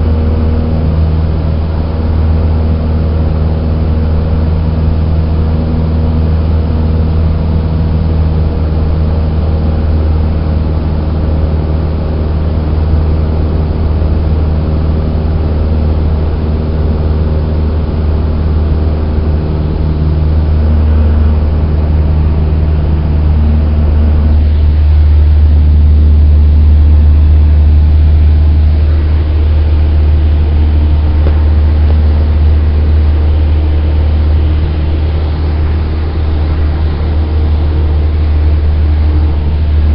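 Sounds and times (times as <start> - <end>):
plane engine and propeller droning: 0.0 - 39.9.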